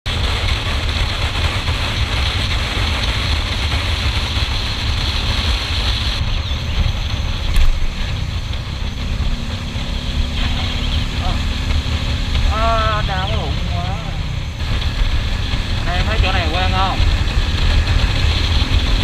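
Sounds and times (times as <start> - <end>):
motorcycle engine running: 0.0 - 19.0
wind rushing on microphone: 0.1 - 19.0.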